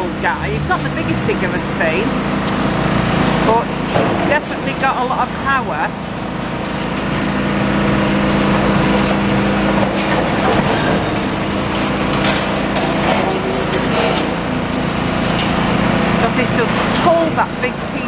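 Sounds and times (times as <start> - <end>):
excavator diesel engine under load: 0.0 - 18.0.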